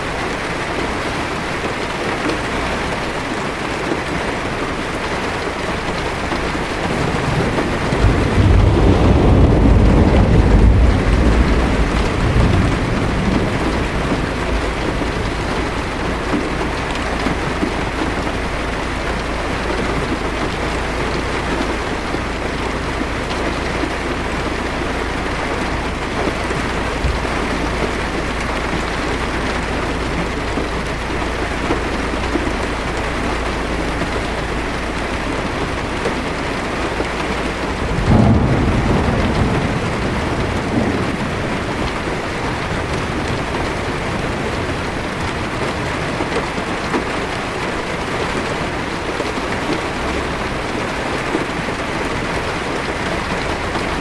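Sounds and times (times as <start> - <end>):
heavy rain on car roof: 0.0 - 54.0
thunder rumbling: 0.0 - 54.0.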